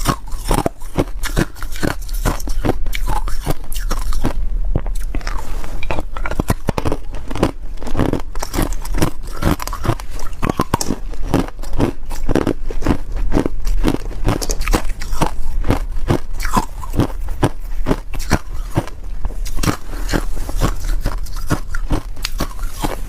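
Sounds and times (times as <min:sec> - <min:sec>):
ice crunching between teeth: 0:00.0 - 0:23.0.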